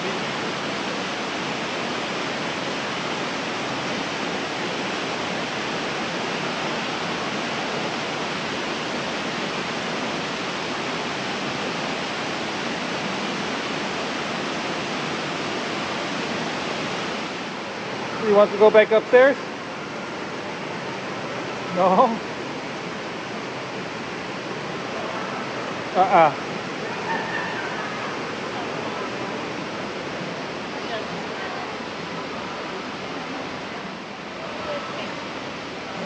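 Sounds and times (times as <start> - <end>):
waterfall splashing over stone: 0.0 - 36.0.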